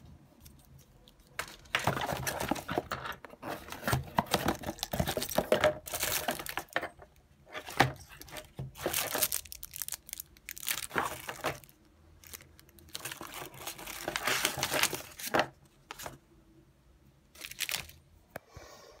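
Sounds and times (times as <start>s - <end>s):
plastic and cardboard crinkling: 0.4s - 16.2s, 17.3s - 18.0s.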